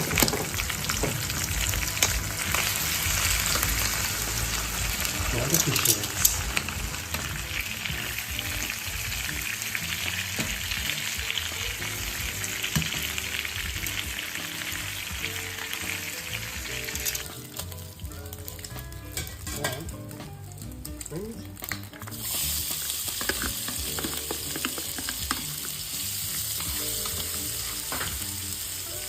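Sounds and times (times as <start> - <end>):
fish frying in hot oil: 0.0 - 19.6, 20.7 - 29.0
soft background music: 0.0 - 29.0.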